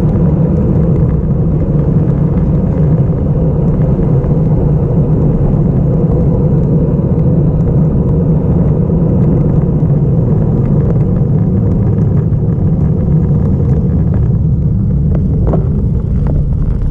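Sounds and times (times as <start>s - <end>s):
bicycle tyre noise on tarmac: 0.0s - 16.9s
wind rumbling on microphone: 0.0s - 16.9s.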